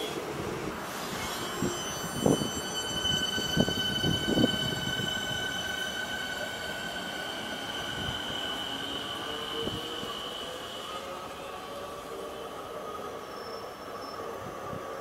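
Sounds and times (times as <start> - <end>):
electric train whine: 0.0 - 15.0.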